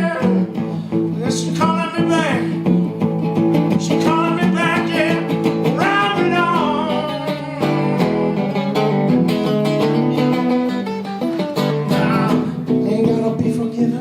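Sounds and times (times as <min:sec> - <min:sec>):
blues guitar: 0:00.0 - 0:14.0.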